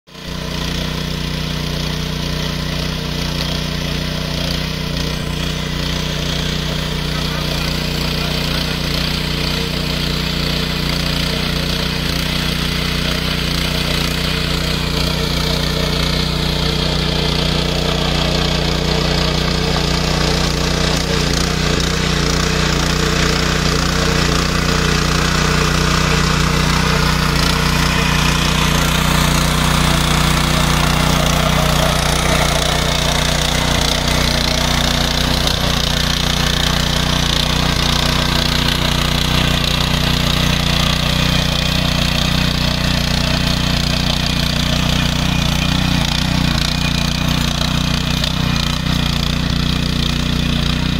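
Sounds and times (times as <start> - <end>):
power tiller engine running: 0.1 - 50.9
rotors churning muddy water: 0.1 - 50.9.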